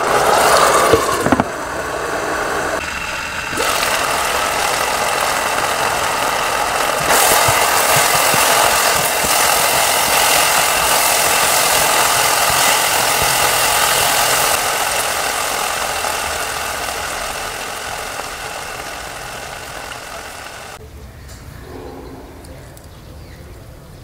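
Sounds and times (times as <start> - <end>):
chicken sizzling and bubbling: 0.0 - 20.8.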